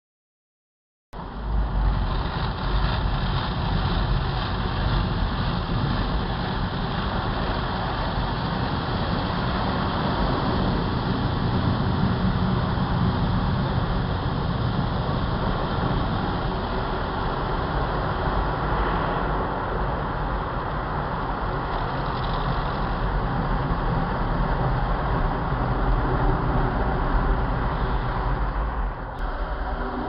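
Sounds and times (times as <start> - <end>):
car wash machinery running: 1.2 - 30.0.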